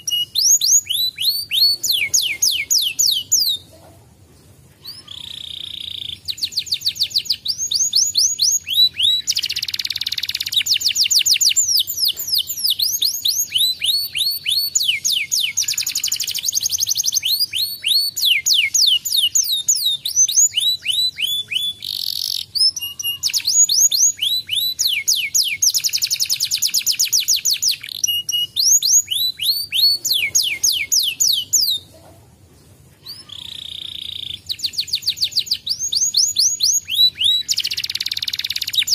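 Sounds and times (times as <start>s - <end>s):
canary singing trills: 0.0s - 3.8s, 4.8s - 32.1s, 33.0s - 38.9s.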